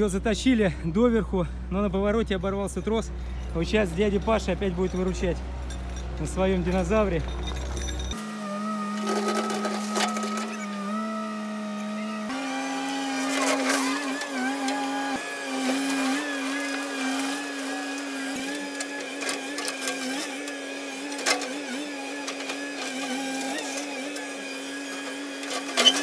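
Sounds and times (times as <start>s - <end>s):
excavator machine whine: 0.0s - 26.0s.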